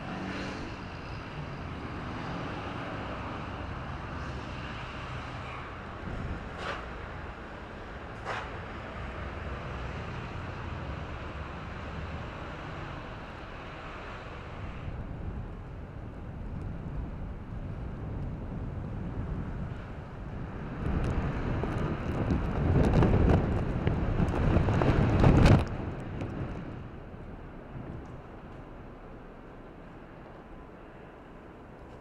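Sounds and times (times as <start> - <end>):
wind buffeting microphone: 0.0 - 11.8, 13.0 - 32.0.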